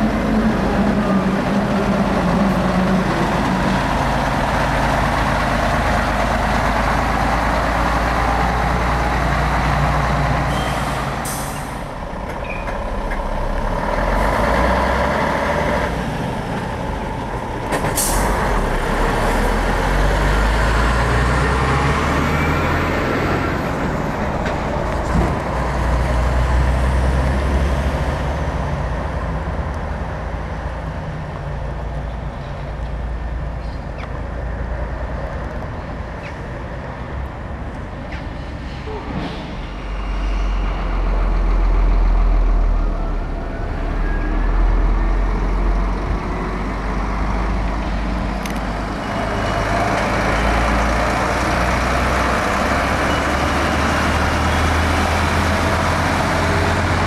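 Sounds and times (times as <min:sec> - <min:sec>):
diesel truck engines droning: 0:00.0 - 0:57.0.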